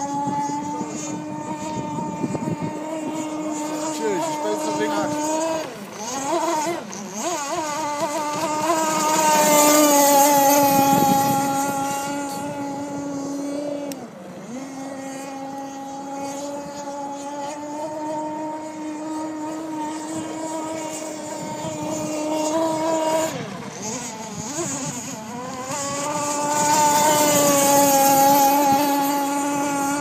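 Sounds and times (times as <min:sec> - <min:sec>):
model speedboat motor whine: 0:00.0 - 0:30.0.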